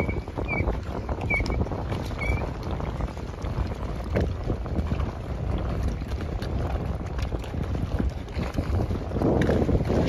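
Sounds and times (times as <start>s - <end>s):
choppy water: 0.0s - 10.0s
wind buffeting microphone: 0.0s - 10.0s.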